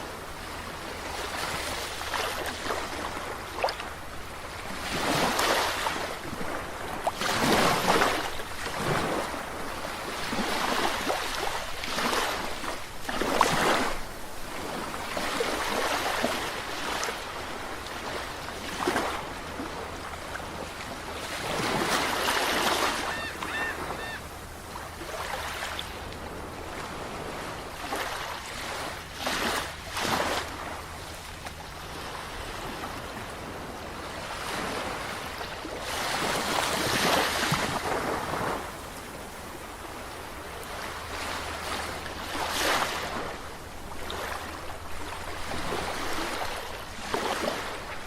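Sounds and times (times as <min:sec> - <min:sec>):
ocean waves breaking: 0:00.0 - 0:48.0.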